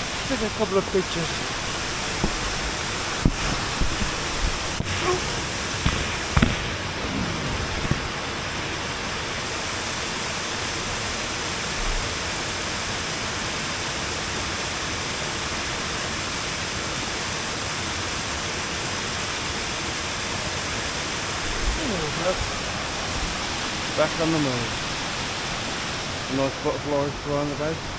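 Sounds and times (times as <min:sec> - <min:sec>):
water rushing over rock steps: 0:00.0 - 0:27.9.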